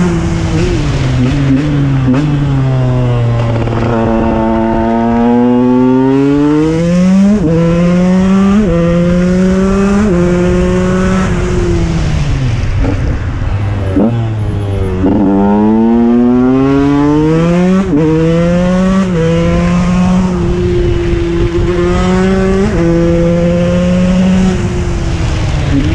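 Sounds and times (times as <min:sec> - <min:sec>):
two-stroke engine accelerating: 0:00.0 - 0:25.9.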